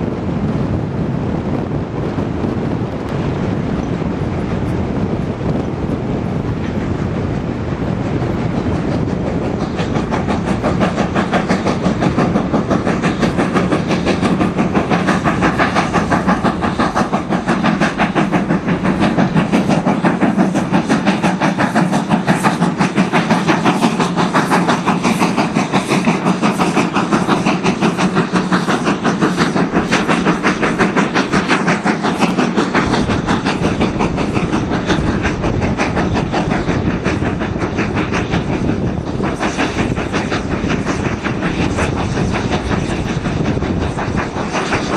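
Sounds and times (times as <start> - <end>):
steam locomotive exhaust beats: 0.0 - 44.9.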